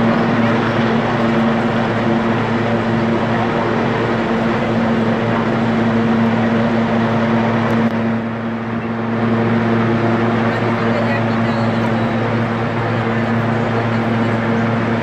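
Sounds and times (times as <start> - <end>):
helicopter turbine and rotor drone: 0.0 - 15.0.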